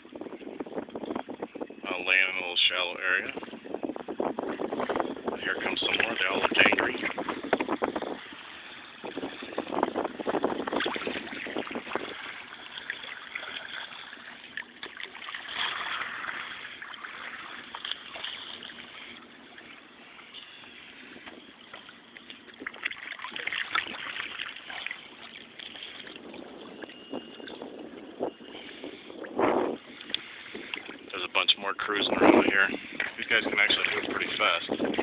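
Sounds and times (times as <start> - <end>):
water splashing around kayak: 0.0 - 35.0.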